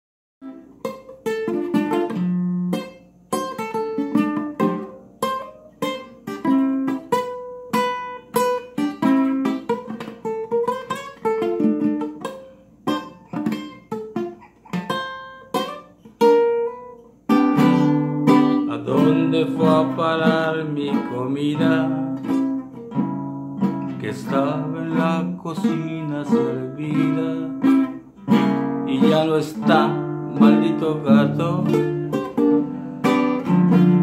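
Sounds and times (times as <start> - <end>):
acoustic guitar melody: 0.4 - 34.0.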